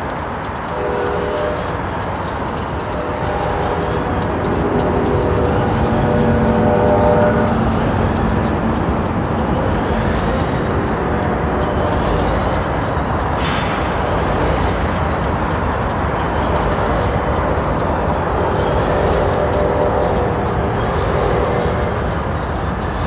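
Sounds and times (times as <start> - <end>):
locomotive diesel engine rumbling: 0.0 - 23.0.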